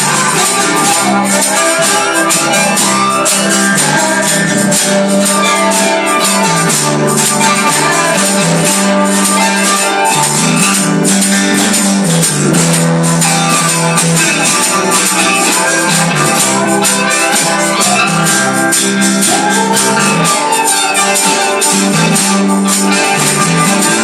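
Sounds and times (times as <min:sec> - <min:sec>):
bass notes: 0:00.0 - 0:24.0
percussion beat: 0:00.0 - 0:24.0.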